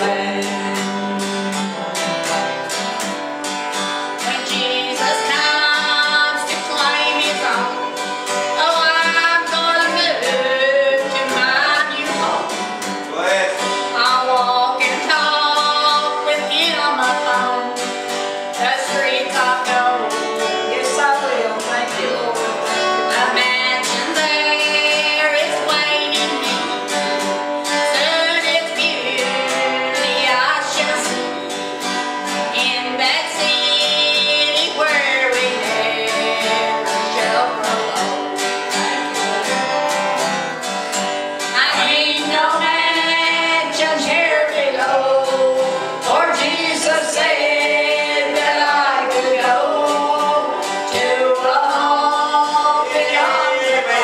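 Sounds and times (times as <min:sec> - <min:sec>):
group singing in harmony: 0:00.0 - 0:01.8, 0:04.1 - 0:40.7, 0:41.4 - 0:54.0
strummed acoustic guitar: 0:00.0 - 0:54.0.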